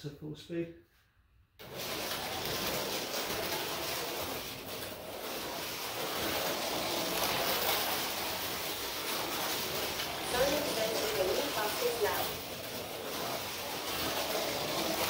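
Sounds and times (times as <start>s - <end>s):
slot car motor whirring: 1.6s - 15.0s.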